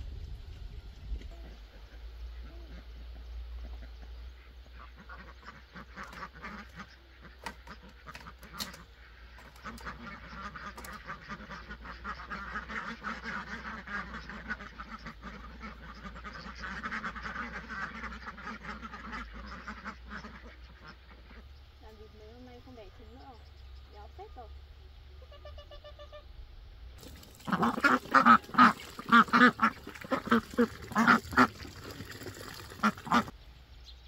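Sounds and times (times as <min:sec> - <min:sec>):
ducks quacking: 0:01.3 - 0:24.5, 0:27.0 - 0:33.3.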